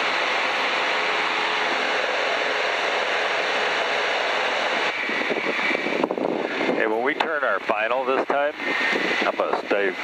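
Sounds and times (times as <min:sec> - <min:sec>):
light airplane in-flight noise: 0:00.0 - 0:10.0.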